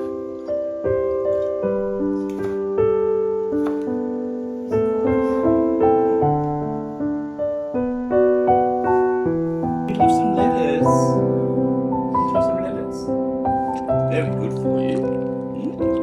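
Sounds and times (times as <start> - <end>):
slow gentle piano melody: 0.0 - 16.0.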